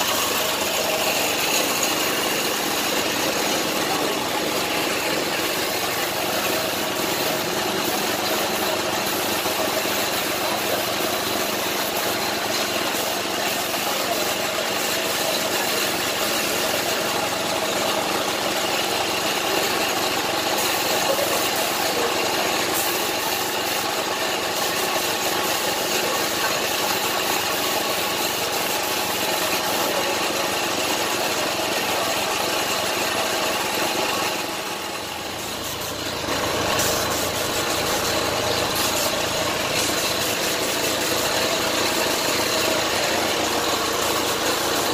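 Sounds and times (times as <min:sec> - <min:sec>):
air compressor running: 0:00.0 - 0:44.9.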